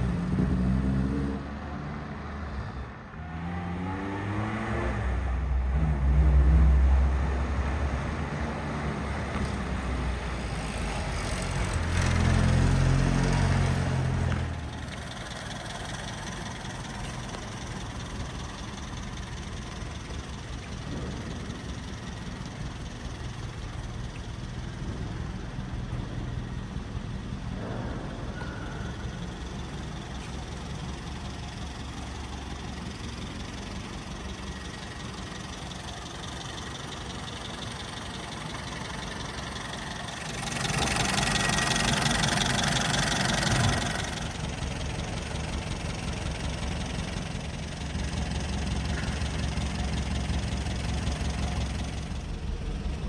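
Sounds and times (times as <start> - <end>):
car engine idling: 0.0 - 1.0, 5.4 - 53.0.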